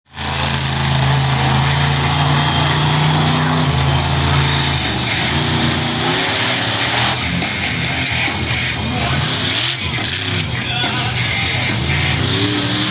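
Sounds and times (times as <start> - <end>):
monster truck engine revving: 0.1 - 12.9.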